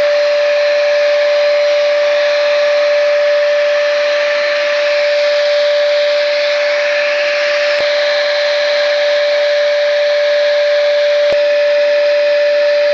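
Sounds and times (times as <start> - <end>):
paint spray gun running: 0.0 - 12.9.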